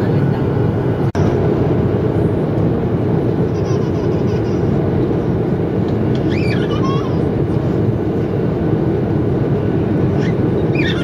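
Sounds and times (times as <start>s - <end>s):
jet cabin engine rush: 0.0s - 11.0s.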